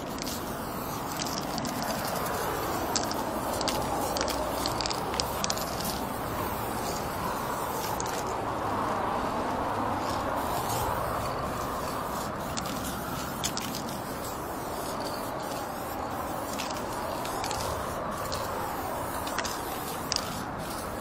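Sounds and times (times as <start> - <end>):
spray paint can hissing: 0.0 - 21.0.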